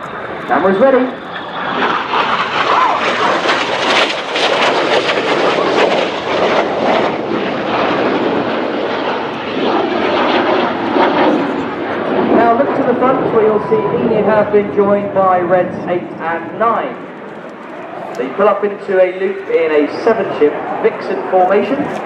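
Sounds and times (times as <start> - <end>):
jet aircraft flying overhead: 0.0 - 22.0.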